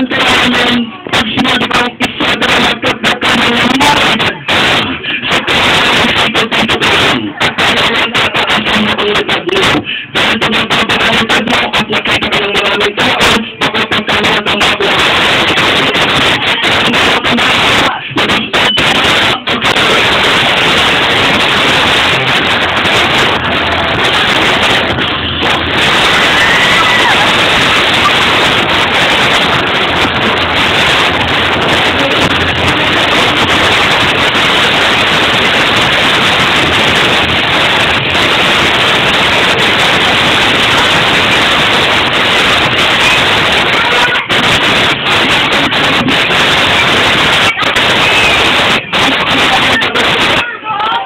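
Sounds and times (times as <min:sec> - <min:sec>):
crowd noise: 0:00.0 - 0:51.0
distorted dance music: 0:00.0 - 0:51.0
static noise: 0:00.0 - 0:51.0.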